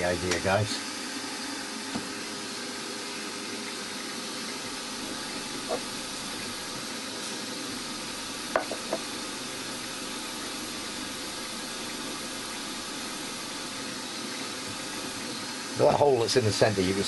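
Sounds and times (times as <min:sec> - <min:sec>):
milling machine humming: 0:00.0 - 0:17.0.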